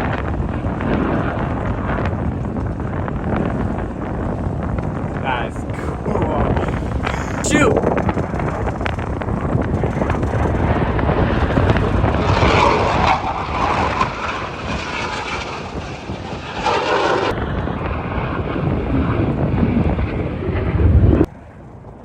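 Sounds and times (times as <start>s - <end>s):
aircraft engine noise: 0.0s - 22.0s
wind rumble on microphone: 0.0s - 22.0s.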